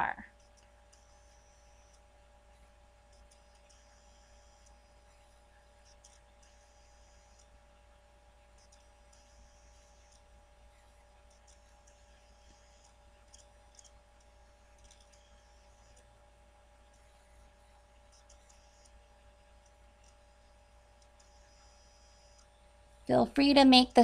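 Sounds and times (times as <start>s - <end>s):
faint steady hum: 0.0s - 24.0s
faint high clicks and hiss: 0.2s - 23.1s.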